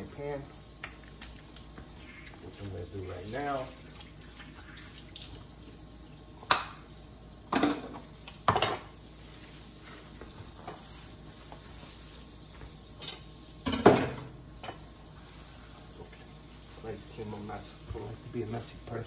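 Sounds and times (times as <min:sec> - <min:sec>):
kitchen tap running: 0:00.0 - 0:19.0.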